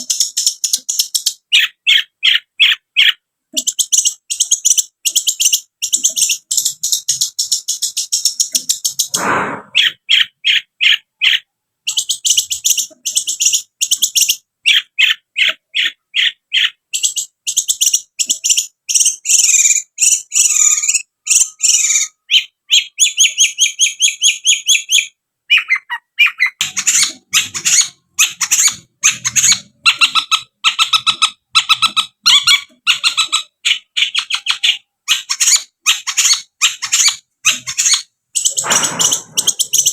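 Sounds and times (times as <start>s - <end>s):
shrike chattering song: 0.0s - 39.9s.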